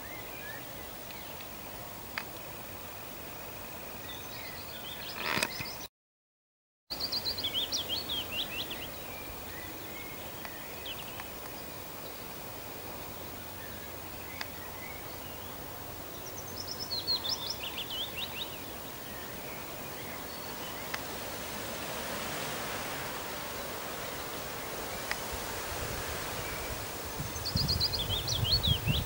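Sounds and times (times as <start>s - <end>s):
songbirds chirping: 0.0s - 5.9s, 6.9s - 29.0s
steady background hiss: 0.0s - 5.9s, 6.9s - 29.0s.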